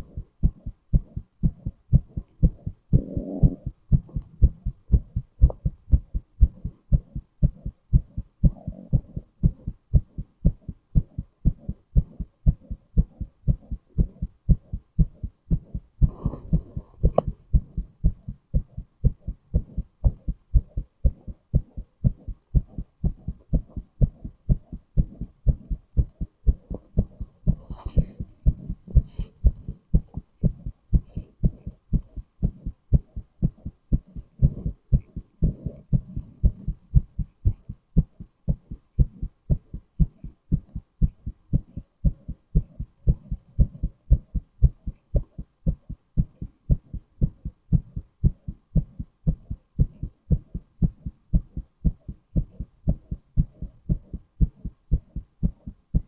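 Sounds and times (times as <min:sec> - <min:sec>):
heartbeat thuds: 0:00.0 - 0:56.0.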